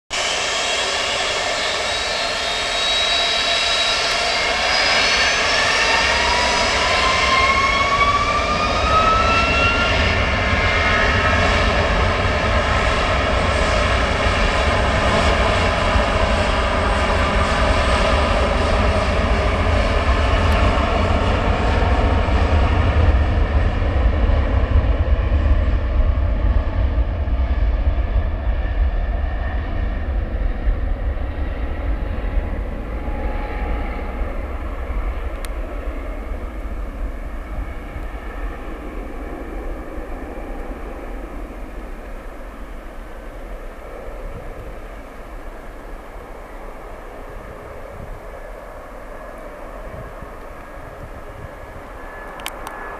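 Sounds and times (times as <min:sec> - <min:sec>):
deep jet roar: 0:00.1 - 0:27.3, 0:28.2 - 0:52.9
jet engine whine rising: 0:00.1 - 0:52.9.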